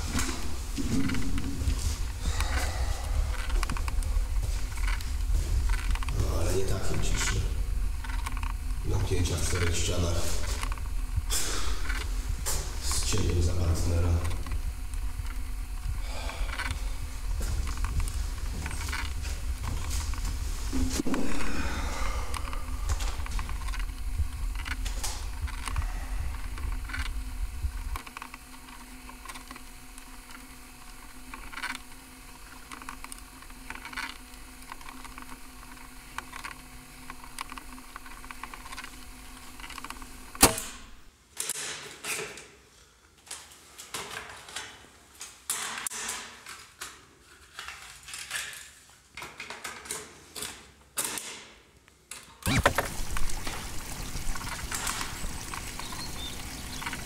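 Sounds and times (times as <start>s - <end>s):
low hum and hiss: 0.0s - 41.3s, 52.5s - 57.0s.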